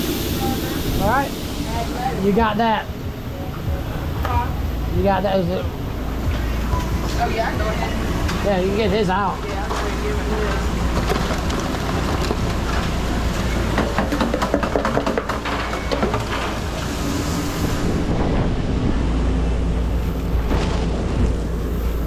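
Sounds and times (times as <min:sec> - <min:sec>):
food truck kitchen rumble: 0:00.0 - 0:22.0.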